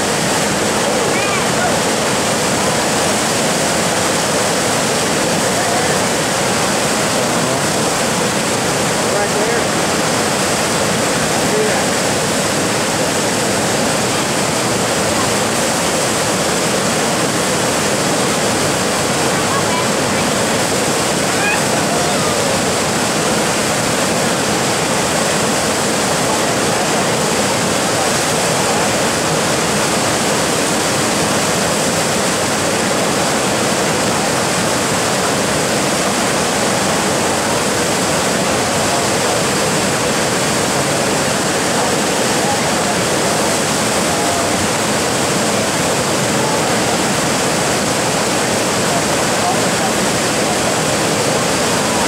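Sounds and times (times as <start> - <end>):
whitewater rushing in rapid: 0.0 - 52.0.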